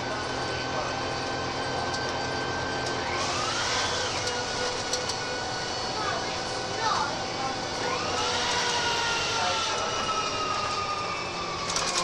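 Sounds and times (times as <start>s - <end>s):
bus driveline whine: 0.0s - 12.0s
rising whine: 0.0s - 12.0s.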